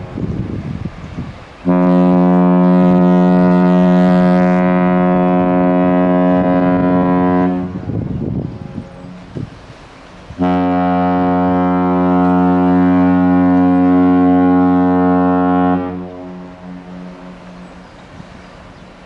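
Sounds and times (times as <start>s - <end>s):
ship horn blasts: 1.6s - 18.7s.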